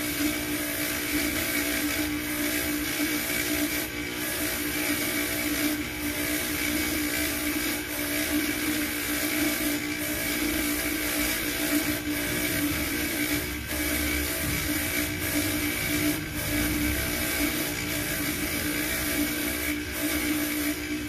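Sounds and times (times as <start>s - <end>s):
polishing motor humming: 0.0s - 21.0s.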